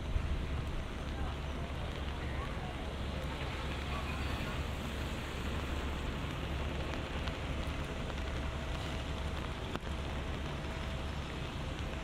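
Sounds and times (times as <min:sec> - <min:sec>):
low city rumble: 0:00.0 - 0:12.0
rain on wet street: 0:00.0 - 0:12.0.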